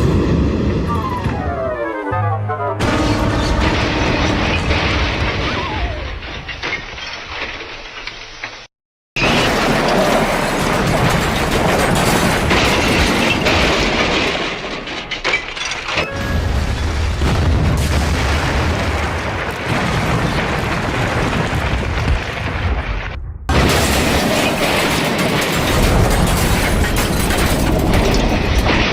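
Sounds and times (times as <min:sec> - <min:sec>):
train crash with booms and rumbling: 0:00.0 - 0:01.6, 0:02.8 - 0:28.9.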